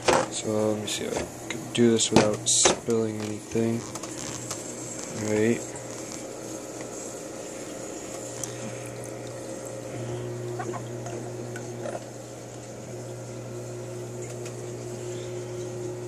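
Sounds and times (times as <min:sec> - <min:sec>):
aquarium pump humming: 0:00.0 - 0:16.0.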